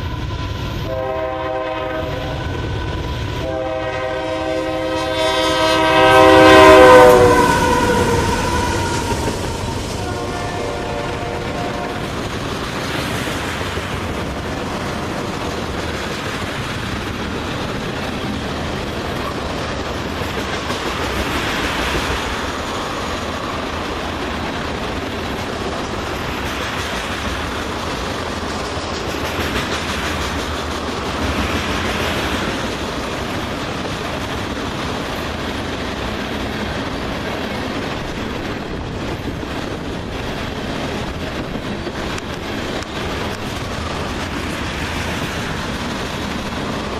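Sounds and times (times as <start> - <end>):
freight train rolling past: 0.0 - 46.9
wheels clacking over rail joints: 5.9 - 46.9.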